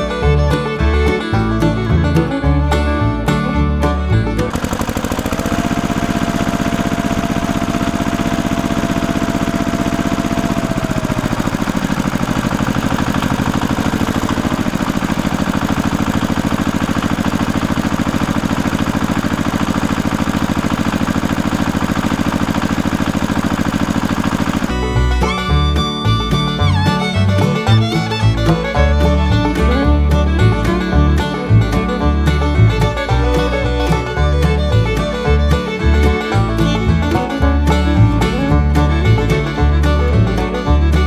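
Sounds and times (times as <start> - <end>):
small engine running: 4.3 - 41.0.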